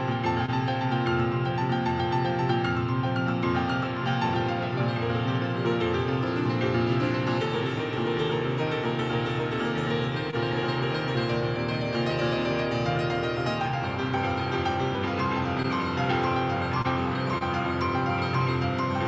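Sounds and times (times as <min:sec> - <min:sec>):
instrumental keyboard music: 0:00.0 - 0:19.0.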